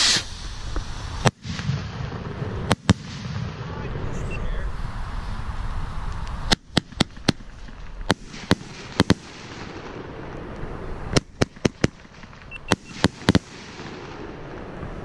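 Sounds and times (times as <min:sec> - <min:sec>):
fireworks bangs: 0:00.0 - 0:04.3, 0:06.3 - 0:15.0.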